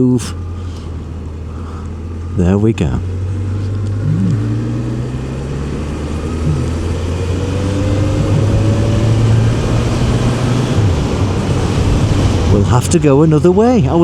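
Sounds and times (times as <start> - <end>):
motorcycle engine riding along: 0.0 - 14.0.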